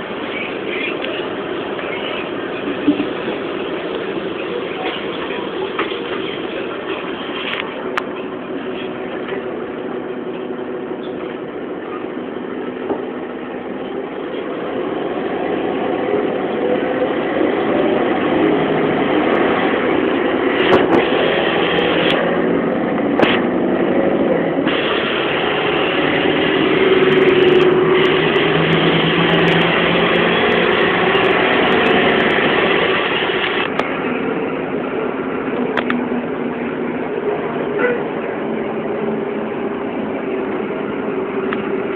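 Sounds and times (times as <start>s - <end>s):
bus engine and road noise: 0.0s - 41.9s.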